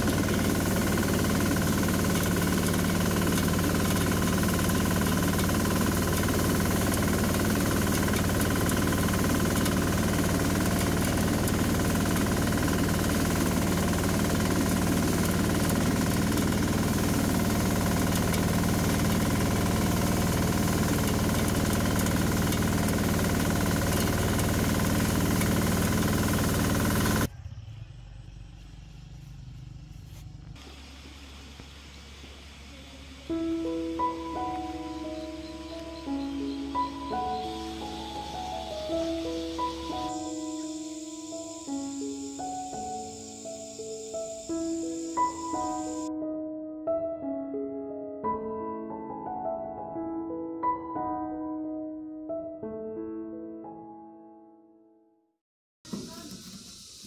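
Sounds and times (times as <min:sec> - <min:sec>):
combine harvester engine drone: 0:00.0 - 0:46.1.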